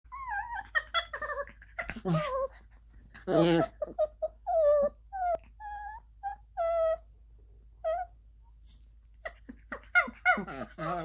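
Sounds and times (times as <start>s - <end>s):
small dogs whimpering: 0.1s - 7.1s, 7.8s - 8.2s, 9.1s - 11.0s.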